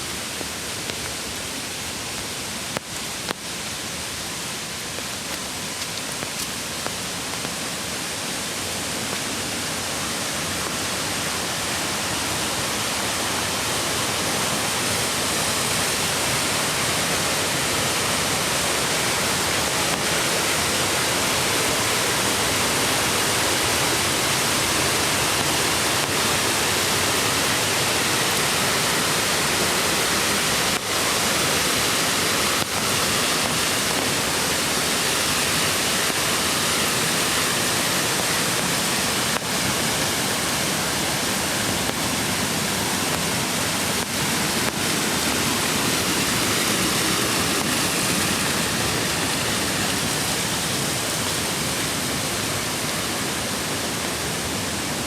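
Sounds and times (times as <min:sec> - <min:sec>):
creek rushing over rocks: 0:00.0 - 0:55.0.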